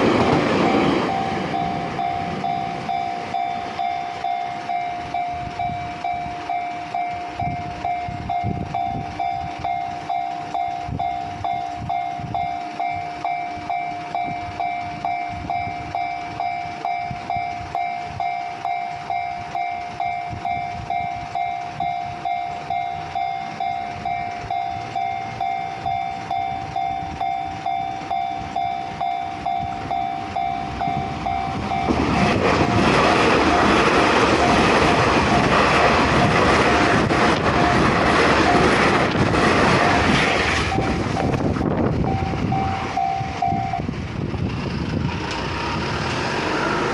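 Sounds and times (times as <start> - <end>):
level crossing bell ringing: 0.0 - 36.4, 40.7 - 43.9
train rushing past: 0.0 - 46.9.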